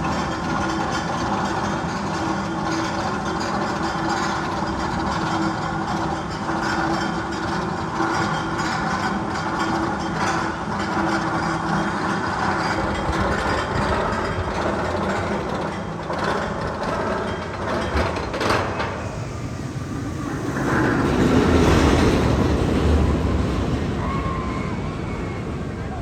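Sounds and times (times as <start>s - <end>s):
roller coaster rumbling on track: 0.0s - 26.0s.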